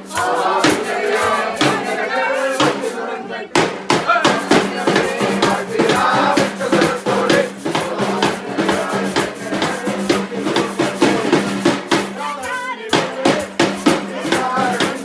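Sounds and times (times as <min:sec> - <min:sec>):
group of voices singing: 0:00.0 - 0:15.0
steady music beat: 0:00.0 - 0:15.0.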